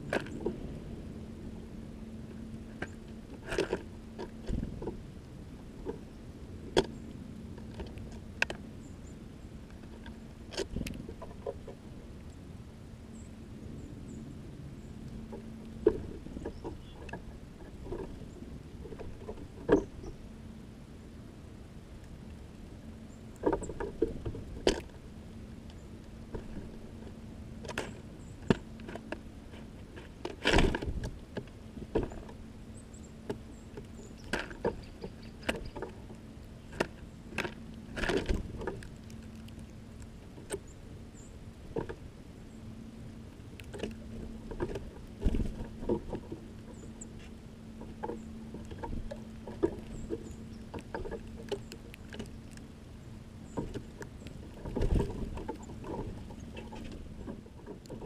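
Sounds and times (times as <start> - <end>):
steady low hum: 0.0 - 58.0
birds tapping and pecking: 2.2 - 12.4, 14.8 - 20.3, 22.0 - 58.0.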